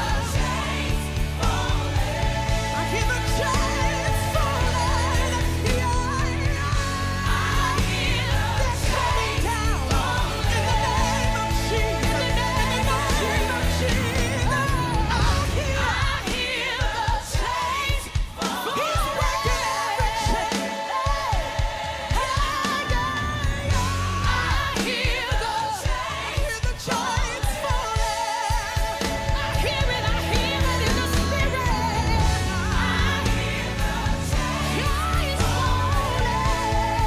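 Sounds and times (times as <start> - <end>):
song with sung lead voice: 0.0 - 37.0.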